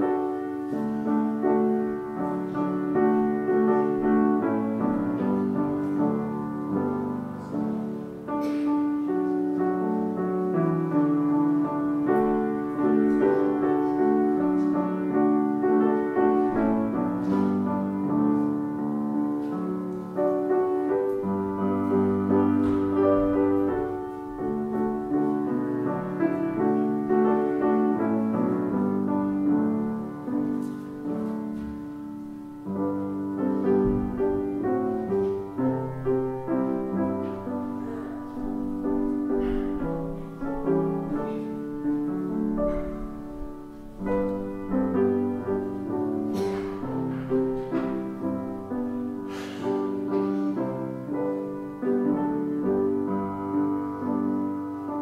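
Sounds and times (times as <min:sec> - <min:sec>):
piano playing slow chords: 0:00.0 - 0:55.0.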